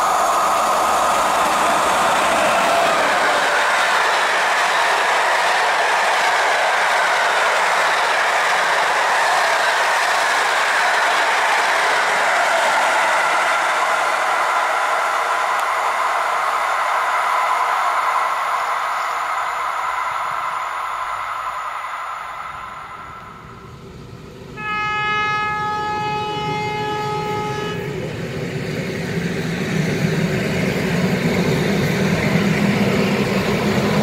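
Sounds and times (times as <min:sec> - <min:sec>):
train wheels rolling on rail: 0:00.0 - 0:34.0.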